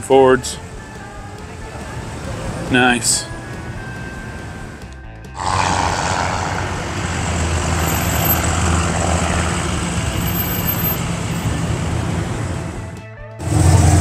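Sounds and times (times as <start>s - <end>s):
street noise: 0.0s - 14.0s
vehicle engine running: 0.5s - 14.0s.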